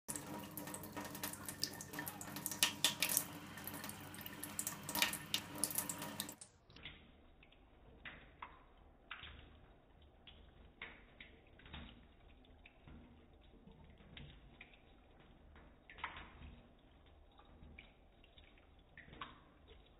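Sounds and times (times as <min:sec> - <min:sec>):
cat lapping water: 0:00.1 - 0:06.4, 0:07.3 - 0:19.9
tap water splashing into sink: 0:00.1 - 0:19.9.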